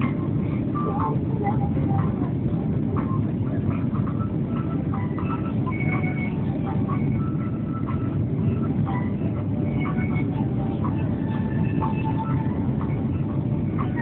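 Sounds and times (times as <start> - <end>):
jet airliner taking off: 0.0 - 11.4.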